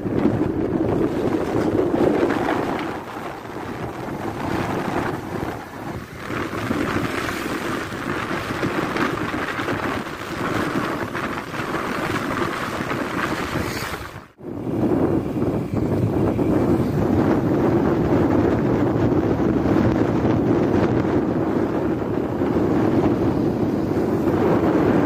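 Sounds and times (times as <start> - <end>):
motorcycle engine: 0.0 - 25.0
road noise: 0.0 - 25.0
wind buffeting microphone: 0.0 - 25.0.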